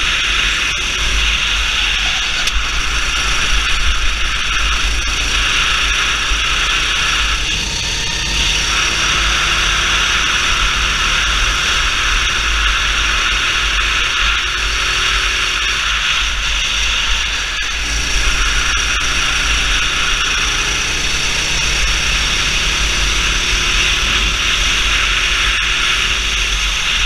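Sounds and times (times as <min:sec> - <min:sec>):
kart engine running: 0:00.0 - 0:27.0.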